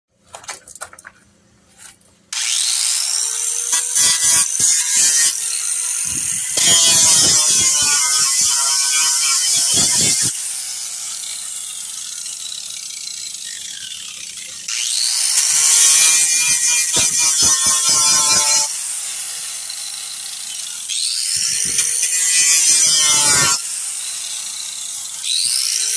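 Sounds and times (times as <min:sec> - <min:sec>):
angle grinder grinding fibreglass: 0:01.8 - 0:25.9.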